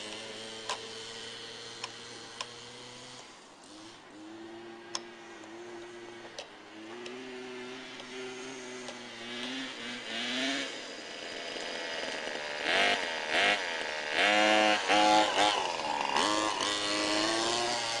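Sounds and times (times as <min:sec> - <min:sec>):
small two-stroke engine revving: 0:00.0 - 0:18.0.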